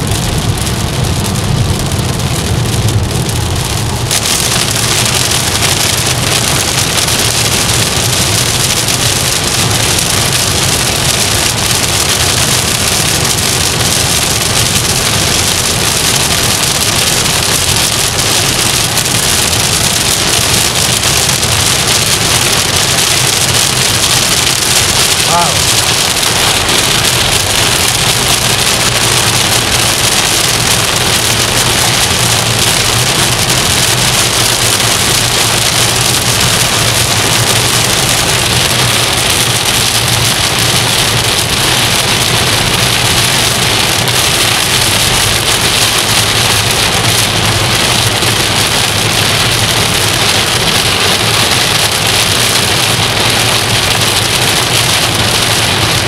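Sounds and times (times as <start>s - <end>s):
car road noise: 0.0s - 56.0s
heavy rain on car roof: 0.0s - 56.0s.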